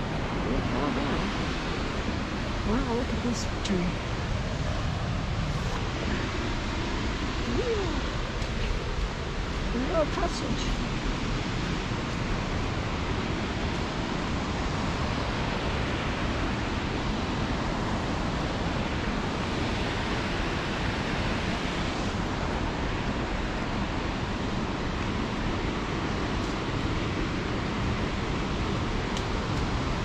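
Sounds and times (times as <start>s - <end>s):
waterfall and river rushing: 0.0s - 30.0s.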